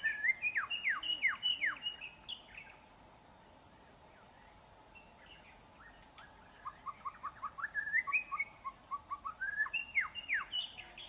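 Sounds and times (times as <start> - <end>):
bird singing whistled notes: 0.0 - 2.8, 3.6 - 11.0.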